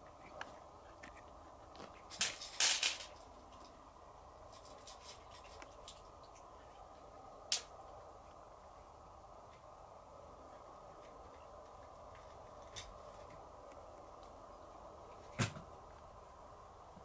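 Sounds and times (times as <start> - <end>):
steady room hum: 0.0 - 17.0.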